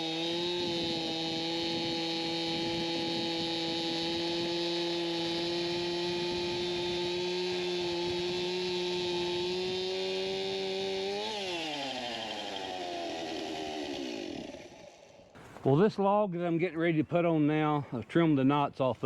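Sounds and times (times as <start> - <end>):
chainsaw engine running: 0.0 - 15.7.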